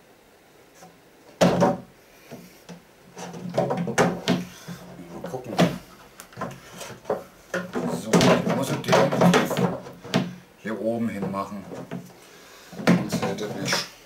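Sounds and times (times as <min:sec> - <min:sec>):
wooden panels knocking and scraping: 0:01.3 - 0:13.9.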